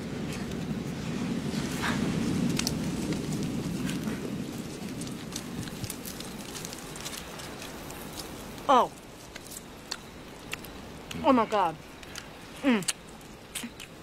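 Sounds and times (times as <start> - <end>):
low steady rushing noise: 0.0 - 13.5
wood fire crackling: 0.0 - 14.0.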